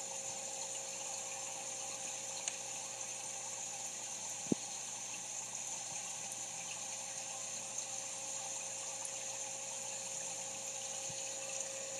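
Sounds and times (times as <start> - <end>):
aquarium pump humming: 0.0 - 11.9.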